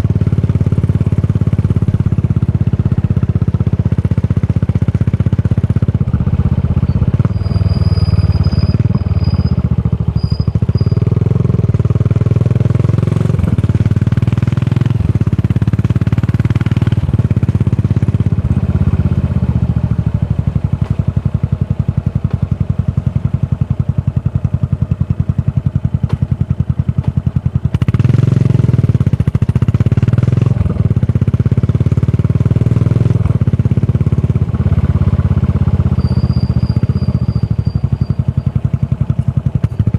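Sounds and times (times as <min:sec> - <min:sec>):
motorcycle exhaust pulsing: 0:00.0 - 0:39.9.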